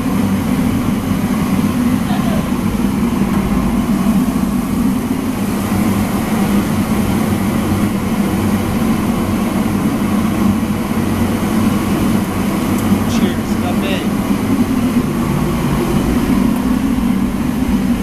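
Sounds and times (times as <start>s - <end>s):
loud machine drone: 0.0s - 18.0s.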